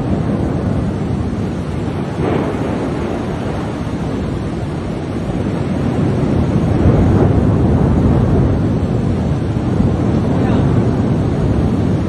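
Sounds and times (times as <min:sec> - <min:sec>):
heavy rain: 0:00.0 - 0:12.0
wind buffeting microphone: 0:00.0 - 0:12.0.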